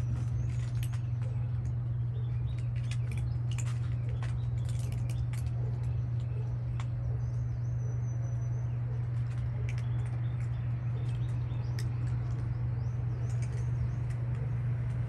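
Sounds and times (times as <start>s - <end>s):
cats chewing and crunching: 0.0s - 15.0s
steady low hum: 0.0s - 15.0s.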